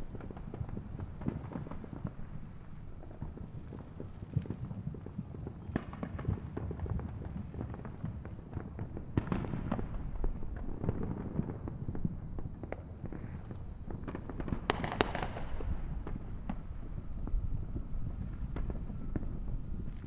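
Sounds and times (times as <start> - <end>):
fireworks crackling and popping: 0.0 - 20.0.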